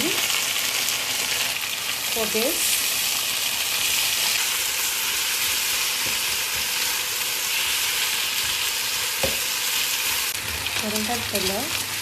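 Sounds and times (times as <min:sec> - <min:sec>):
frying sizzle in a pan: 0:00.0 - 0:12.0.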